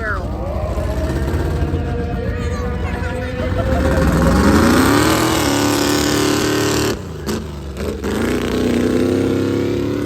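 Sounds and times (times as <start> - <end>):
truck engine running at high revs: 0.0 - 10.0.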